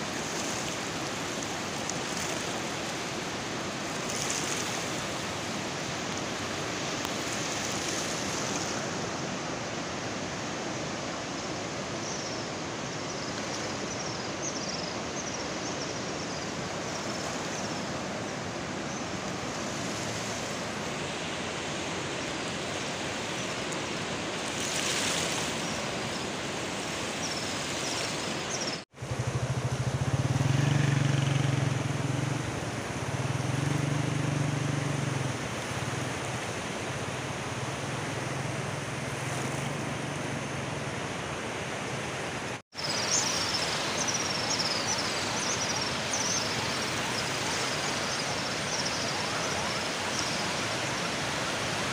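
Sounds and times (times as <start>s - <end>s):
floodwater rushing: 0.0s - 13.8s, 16.6s - 51.9s.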